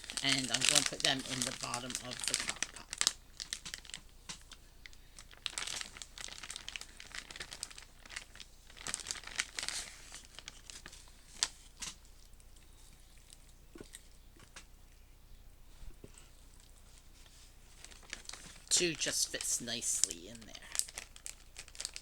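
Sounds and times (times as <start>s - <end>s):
plastic packaging crinkling and tearing: 0.0s - 12.2s, 16.6s - 22.0s.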